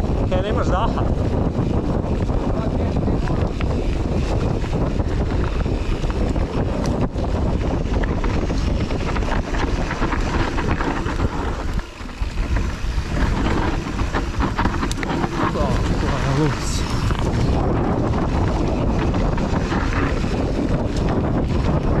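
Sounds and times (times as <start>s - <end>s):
wind buffeting microphone: 0.0s - 22.0s
tyre roar on dirt: 1.0s - 22.0s.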